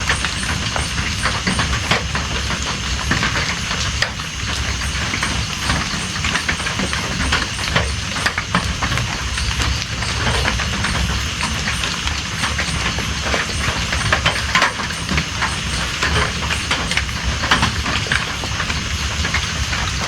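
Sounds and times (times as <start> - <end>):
rain drops ticking on a surface: 0.0 - 20.0.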